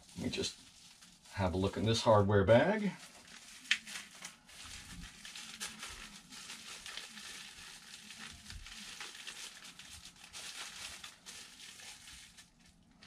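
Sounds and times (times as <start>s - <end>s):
bubble wrap and plastic crinkling: 0.0s - 13.0s.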